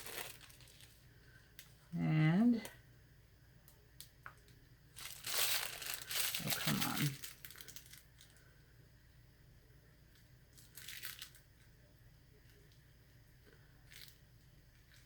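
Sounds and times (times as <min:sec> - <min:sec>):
faint plastic bag rustle: 0:00.0 - 0:02.8, 0:04.0 - 0:08.7, 0:10.1 - 0:15.0.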